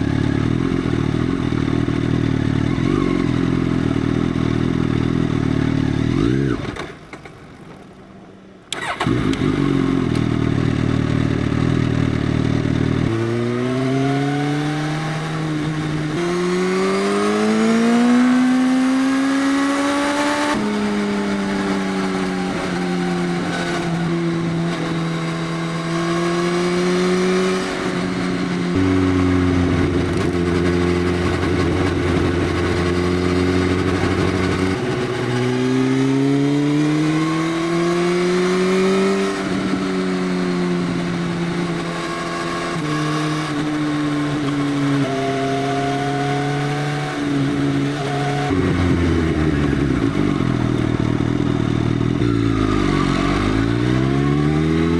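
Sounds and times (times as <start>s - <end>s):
motorcycle engine revving: 0.0s - 7.2s, 8.7s - 54.9s.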